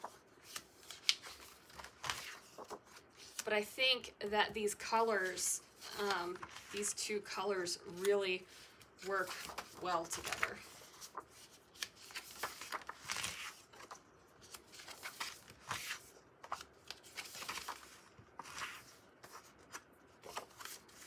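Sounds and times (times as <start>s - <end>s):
paper sheets rustling and sliding: 0.0s - 3.4s, 5.9s - 6.9s, 8.6s - 21.0s.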